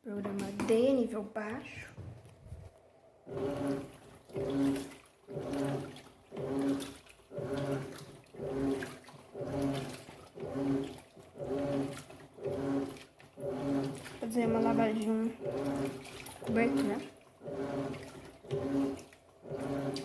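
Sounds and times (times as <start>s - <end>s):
water sloshing in tub: 0.1s - 20.0s
washing machine motor humming in pulses: 2.0s - 20.0s.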